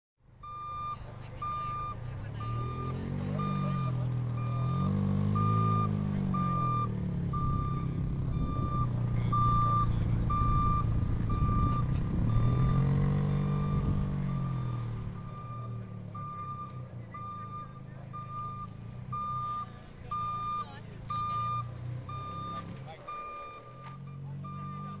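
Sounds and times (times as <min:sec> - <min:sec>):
car engine revving: 0:00.3 - 0:25.0
electronic warning beeps: 0:00.4 - 0:25.0.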